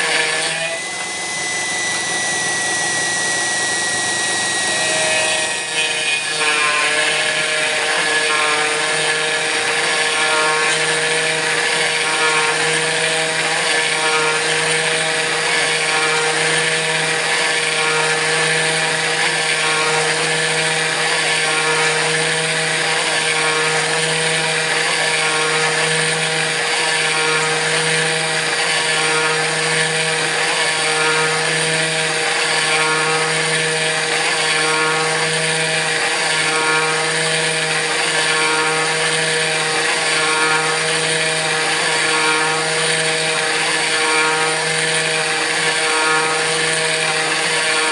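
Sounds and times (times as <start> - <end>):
router spindle milling metal: 0.0 - 47.9.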